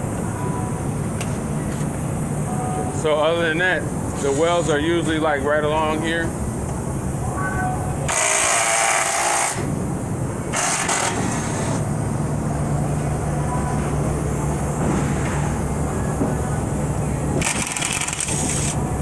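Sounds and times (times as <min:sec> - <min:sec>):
factory machinery humming: 0:00.0 - 0:19.0.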